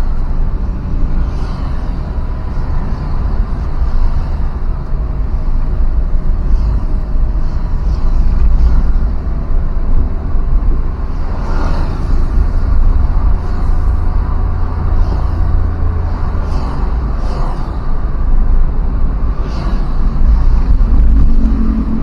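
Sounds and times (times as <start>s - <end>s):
vehicle road noise rumble: 0.0s - 22.0s.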